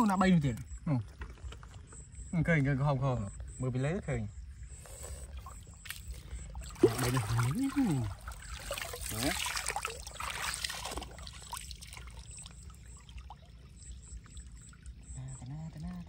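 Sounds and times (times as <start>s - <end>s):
water splashing and sloshing: 0.0s - 2.3s, 5.2s - 16.0s.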